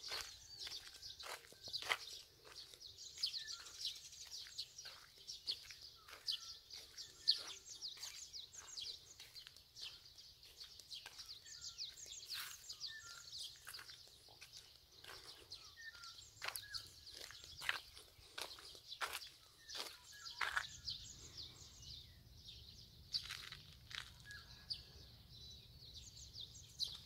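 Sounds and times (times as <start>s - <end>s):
footsteps on paved road: 0.0s - 21.1s, 22.7s - 24.7s
small birds chirping: 0.0s - 27.0s.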